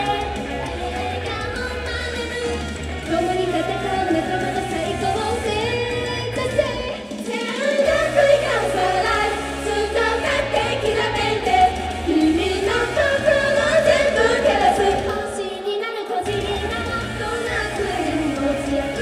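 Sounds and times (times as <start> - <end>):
amplified music with heavy bass: 0.0 - 15.4, 16.3 - 19.0
women singing pop song: 0.0 - 19.0.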